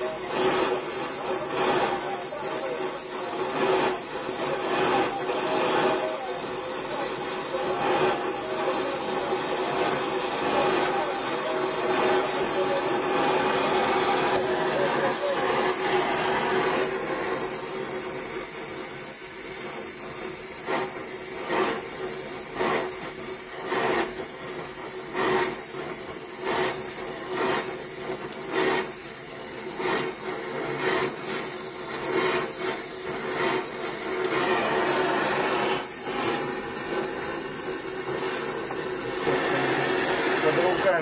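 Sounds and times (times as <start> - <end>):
gas torch flame hissing: 0.0 - 41.0
welding crackles: 0.0 - 41.0.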